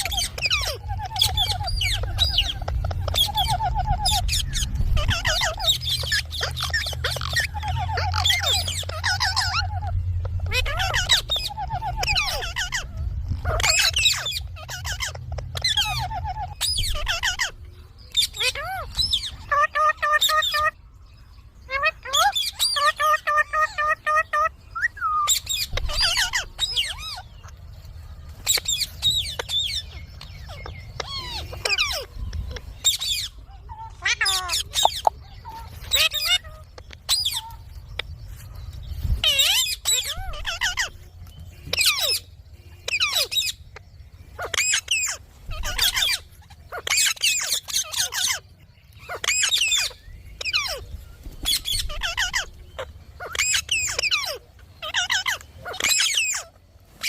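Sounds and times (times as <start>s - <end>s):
parrot chattering and squawking: 0.0s - 20.8s, 21.7s - 27.7s, 28.4s - 38.2s, 39.1s - 56.6s.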